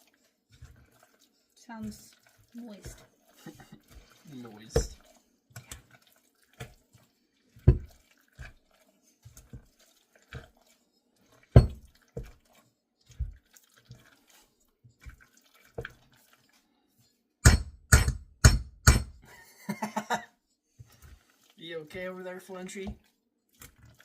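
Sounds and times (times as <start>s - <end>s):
spoon stirring thick dip: 0.0s - 17.4s, 20.4s - 24.0s.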